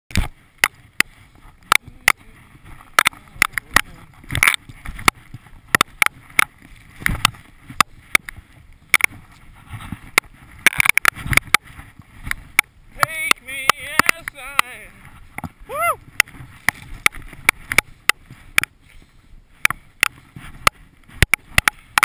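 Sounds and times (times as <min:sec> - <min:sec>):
skis and poles clicking: 0:00.1 - 0:22.0.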